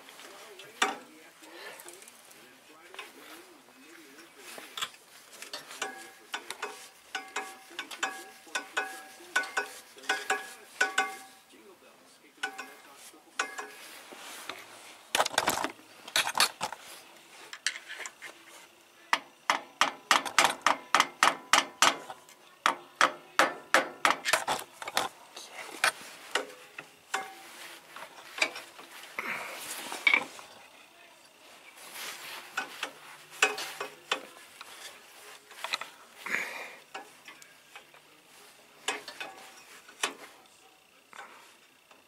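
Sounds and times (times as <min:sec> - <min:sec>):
hand tools tapping on metal: 0:00.0 - 0:11.6, 0:12.4 - 0:14.6, 0:19.1 - 0:42.0.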